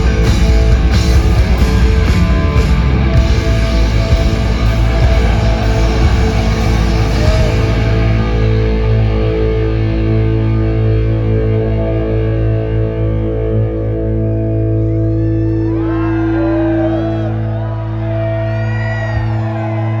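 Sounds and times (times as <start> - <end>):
distorted guitars and bass chord: 0.0 - 18.0.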